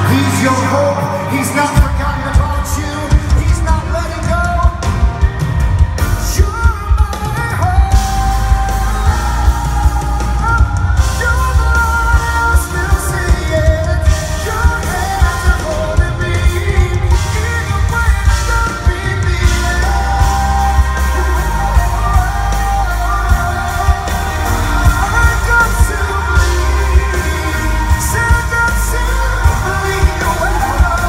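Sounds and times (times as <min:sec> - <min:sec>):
live pop-rock band: 0:00.0 - 0:31.0
man singing lead vocal: 0:00.0 - 0:31.0.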